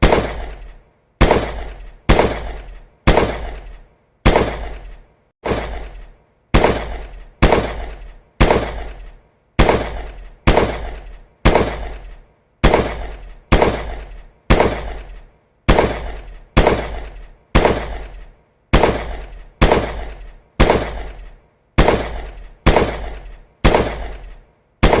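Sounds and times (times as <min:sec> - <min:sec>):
gunshots: 0:00.0 - 0:25.0.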